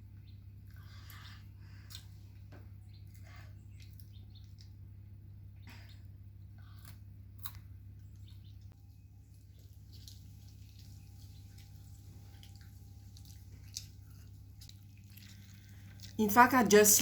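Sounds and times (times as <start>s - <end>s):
girl chewing food: 0.0s - 17.0s
steady low hum: 0.0s - 17.0s.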